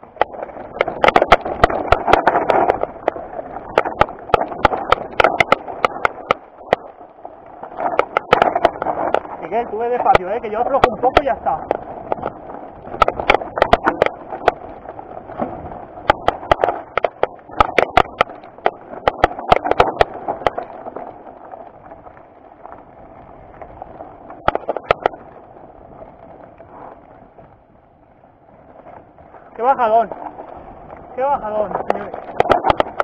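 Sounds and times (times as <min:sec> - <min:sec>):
bike clacking over rocks: 0:00.0 - 0:27.6, 0:28.6 - 0:33.0
tyres rolling noise: 0:00.0 - 0:33.0.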